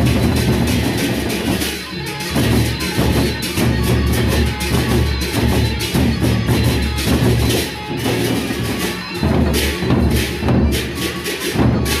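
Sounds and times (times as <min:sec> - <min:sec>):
large barrel drums beaten fast: 0:00.0 - 0:01.7, 0:02.3 - 0:12.0.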